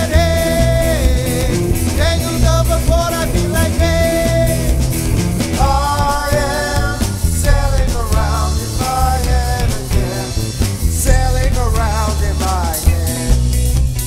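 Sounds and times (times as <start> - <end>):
rock band playing: 0.0 - 14.0
sung lead vocal: 0.0 - 14.0.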